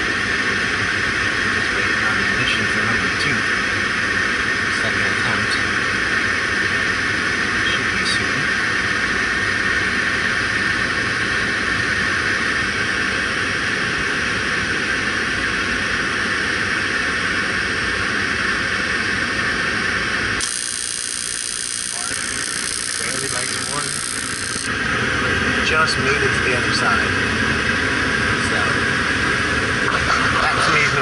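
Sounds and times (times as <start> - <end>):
high-pitched motor whine: 0.0 - 30.0.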